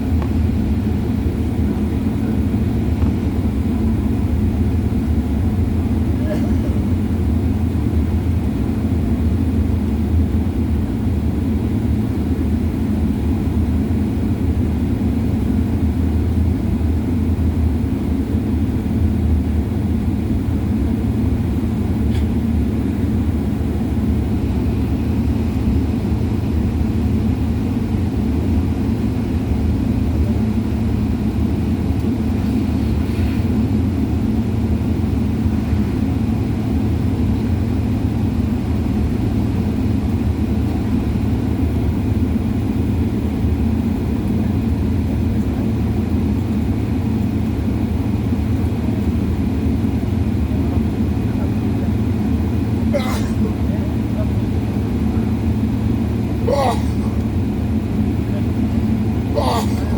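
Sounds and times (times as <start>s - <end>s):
jet engine cabin rumble: 0.0s - 59.9s.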